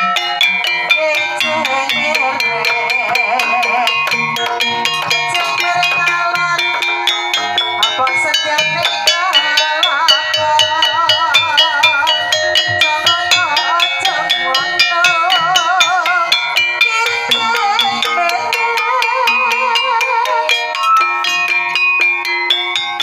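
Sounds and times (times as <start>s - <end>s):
struck metallophones and percussion: 0.0s - 23.0s
woman singing wavering melody: 0.0s - 23.0s.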